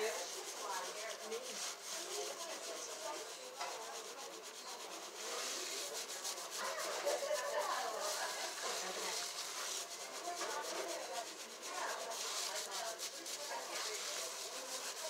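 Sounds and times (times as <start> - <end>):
fingers scrubbing lathered scalp: 0.0 - 15.0.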